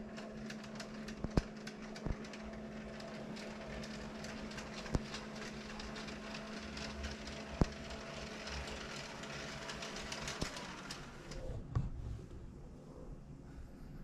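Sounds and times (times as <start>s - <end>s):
curtain track motor humming: 0.0s - 13.2s.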